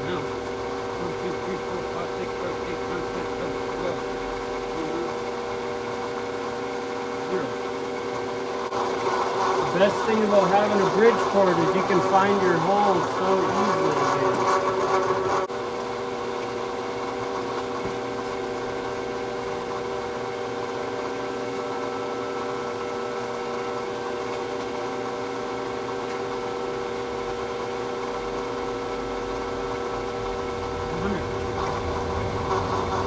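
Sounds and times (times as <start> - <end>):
milling machine humming: 0.0 - 33.0.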